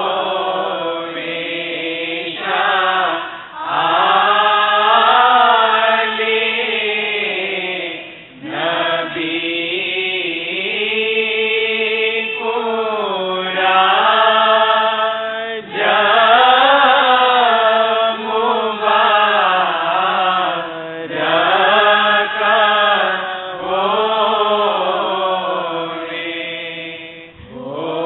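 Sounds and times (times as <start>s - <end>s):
devotional chanting: 0.0s - 28.0s.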